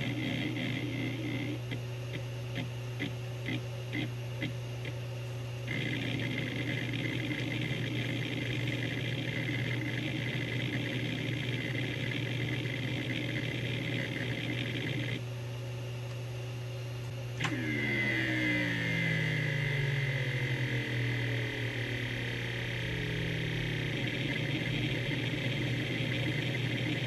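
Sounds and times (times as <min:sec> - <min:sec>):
hard drive spindle humming: 0:00.0 - 0:27.0.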